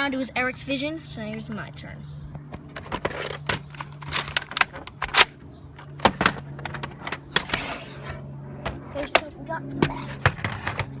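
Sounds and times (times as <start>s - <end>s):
low hum: 0.1s - 11.0s.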